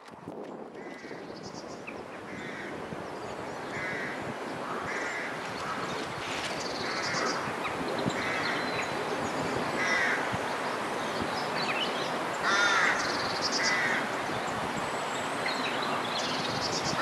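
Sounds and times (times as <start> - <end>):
wind: 0.0 - 17.0
birds harsh calls: 0.8 - 17.0.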